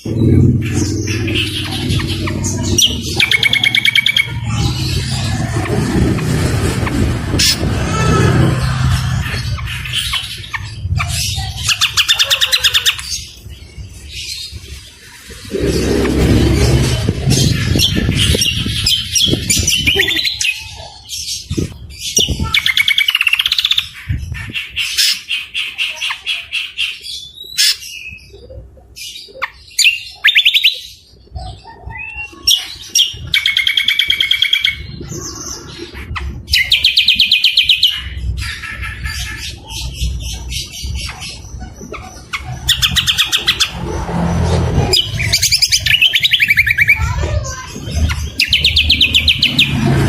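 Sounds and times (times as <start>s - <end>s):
other birds' rough songs: 0.0s - 50.0s
songbird singing: 7.4s - 50.0s.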